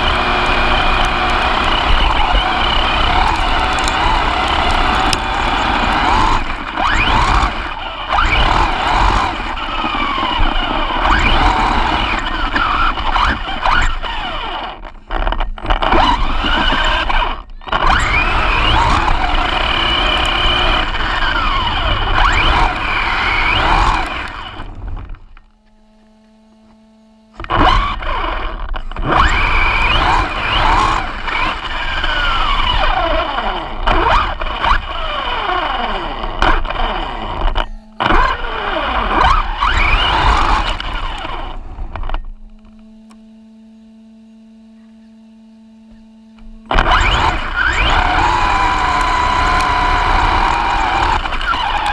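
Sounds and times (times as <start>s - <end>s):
rc car motor whining: 0.0s - 51.9s.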